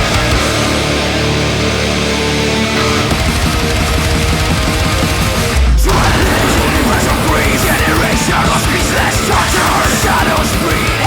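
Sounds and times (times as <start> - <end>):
thrash metal music: 0.0 - 11.0.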